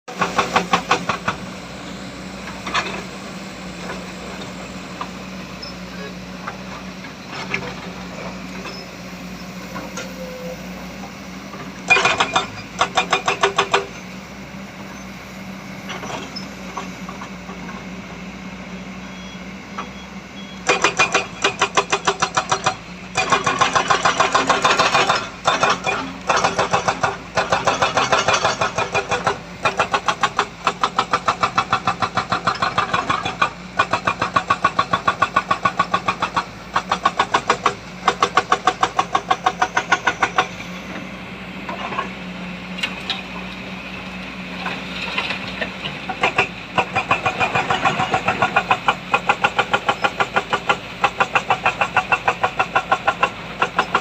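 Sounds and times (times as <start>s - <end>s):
heavy diesel engines running: 0.1s - 54.0s.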